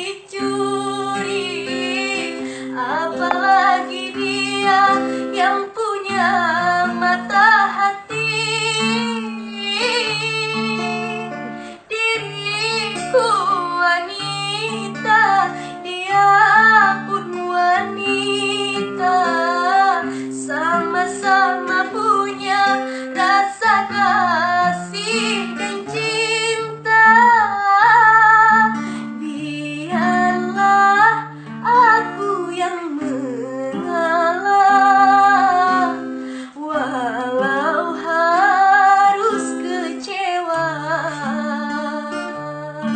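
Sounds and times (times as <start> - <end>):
acoustic guitar: 0.0 - 42.9
girl singing: 0.0 - 42.9.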